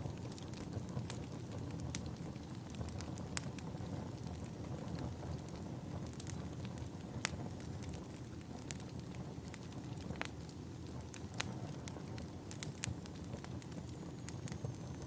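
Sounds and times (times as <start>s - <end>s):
fire crackles and pops: 0.0s - 15.0s
log fire rumbling: 0.0s - 15.0s.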